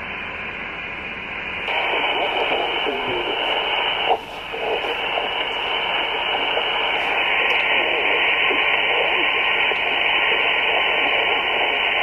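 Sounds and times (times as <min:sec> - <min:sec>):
radio hiss: 0:01.6 - 0:12.0
faint garbled radio voices: 0:01.7 - 0:12.0.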